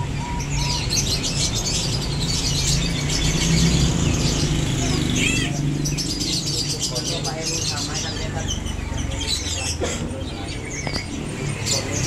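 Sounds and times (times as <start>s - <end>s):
young birds chirping: 0.0s - 12.0s.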